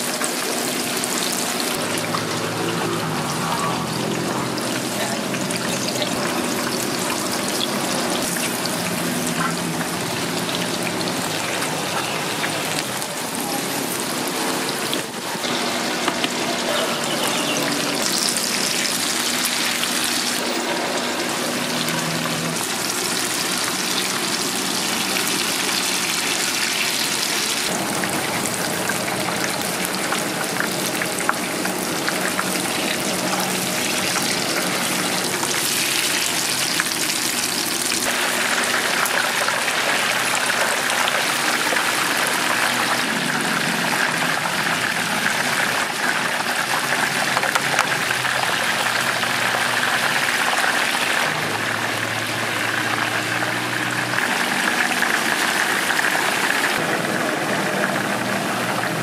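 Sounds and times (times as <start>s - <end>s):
hot oil sizzling: 0.0s - 59.0s.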